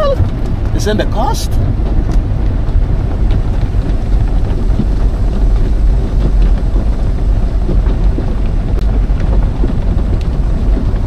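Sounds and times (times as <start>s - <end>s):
car wash water jets spraying: 0.0s - 11.0s.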